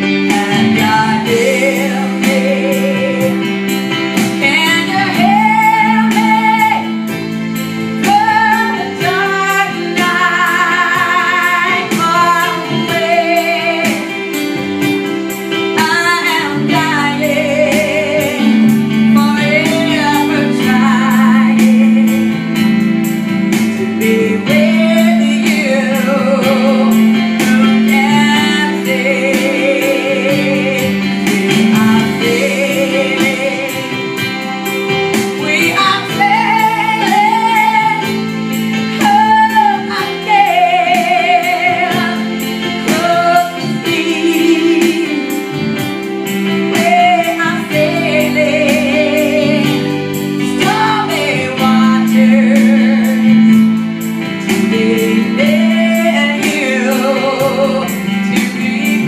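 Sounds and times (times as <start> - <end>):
woman singing with vibrato: 0.0 - 14.8, 15.4 - 59.0
electronic keyboard chords: 0.0 - 59.0.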